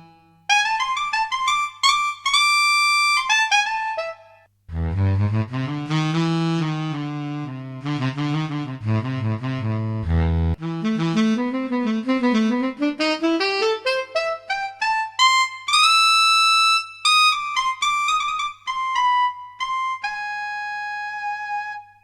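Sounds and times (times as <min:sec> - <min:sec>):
solo saxophone: 0:00.0 - 0:22.0.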